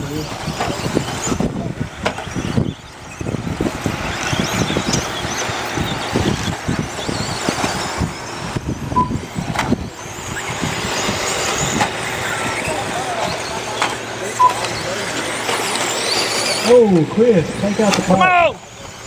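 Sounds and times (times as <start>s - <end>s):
small engines whining and revving: 0.0s - 19.0s.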